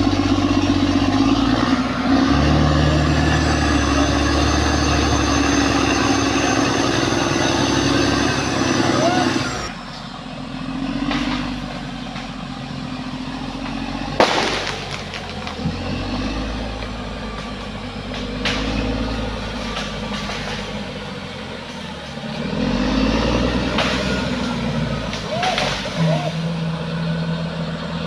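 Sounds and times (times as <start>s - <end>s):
bulldozer diesel engine under load: 0.0s - 28.0s.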